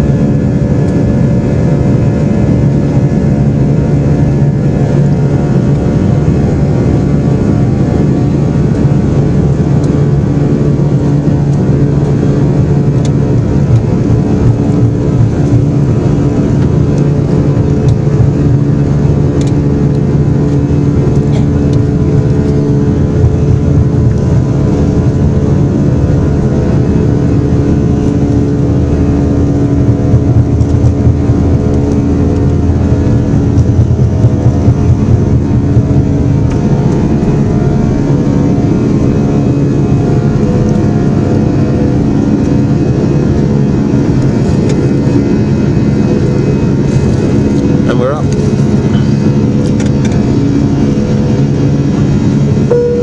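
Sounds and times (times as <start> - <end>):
aircraft engines humming: 0.0 - 53.0.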